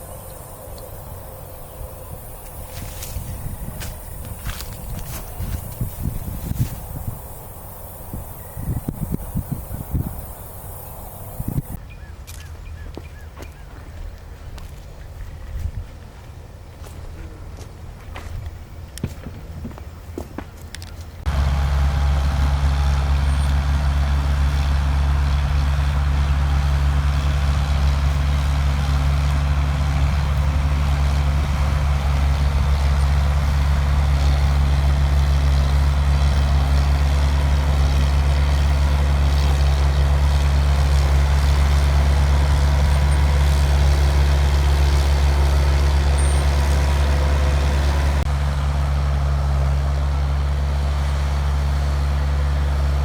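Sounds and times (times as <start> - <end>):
bulldozer diesel engine running: 0.0 - 11.8, 12.7 - 53.0.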